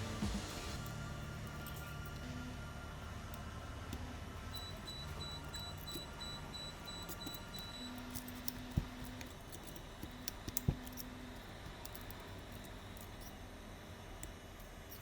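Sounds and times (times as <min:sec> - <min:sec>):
tools and parts clicking: 0:00.8 - 0:02.4, 0:03.3 - 0:13.4, 0:14.2 - 0:15.0.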